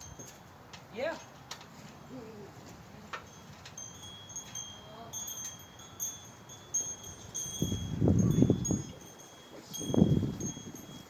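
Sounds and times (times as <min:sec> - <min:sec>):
wind chimes ringing: 0:00.0 - 0:01.4, 0:03.0 - 0:11.0.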